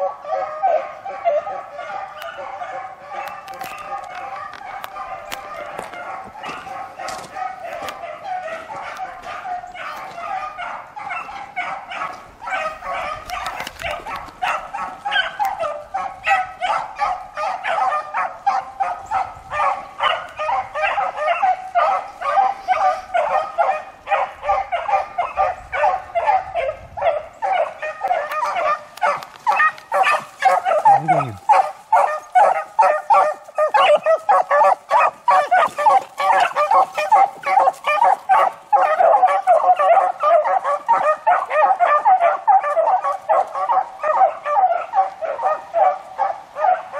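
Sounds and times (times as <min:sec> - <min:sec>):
hounds baying: 0:00.0 - 0:46.9.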